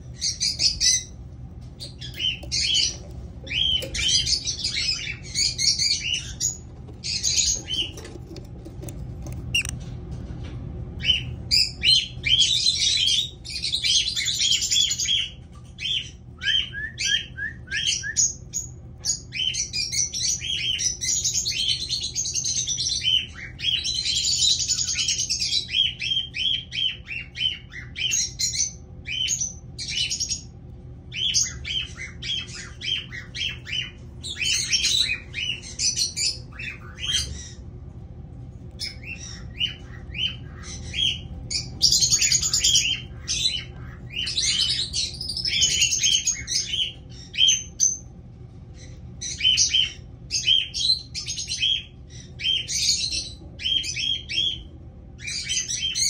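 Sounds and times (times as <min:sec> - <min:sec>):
birds squawking chirps: 0:00.0 - 0:09.8, 0:11.0 - 0:37.8, 0:38.7 - 0:56.0.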